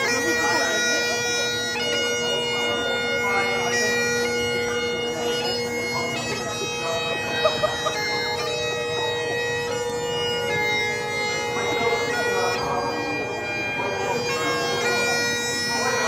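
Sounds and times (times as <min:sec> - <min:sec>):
bagpipe chanter melody: 0:00.0 - 0:16.0
bagpipe drones: 0:00.0 - 0:16.0.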